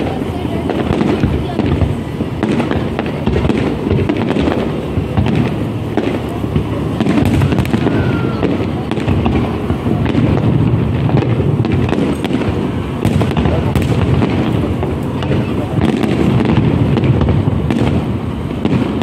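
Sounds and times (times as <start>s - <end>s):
fireworks bangs and crackles: 0.0s - 19.0s
low rumble of booms: 0.0s - 19.0s.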